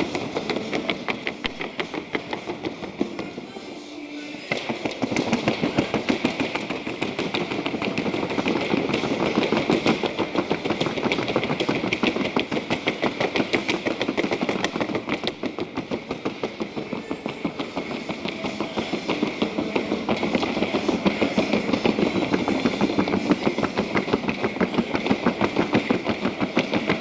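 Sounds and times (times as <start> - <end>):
horse hooves on wooden board: 0.0 - 3.7, 4.4 - 27.0.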